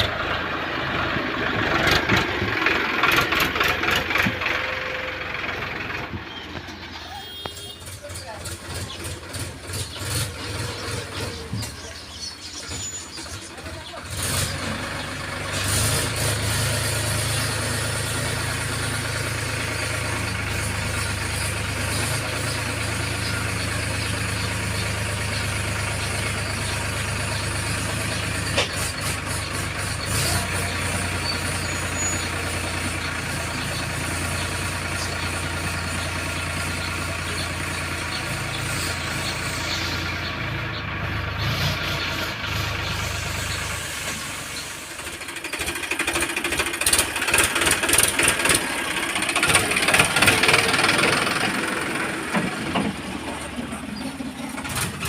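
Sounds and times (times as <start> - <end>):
diesel engine starting and idling: 0.0 - 55.0.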